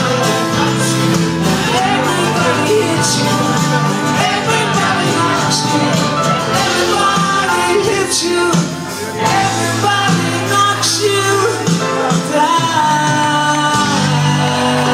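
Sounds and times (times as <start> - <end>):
acoustic guitars: 0.0 - 14.9
live rock band playing: 0.0 - 14.9
person singing: 0.0 - 14.9.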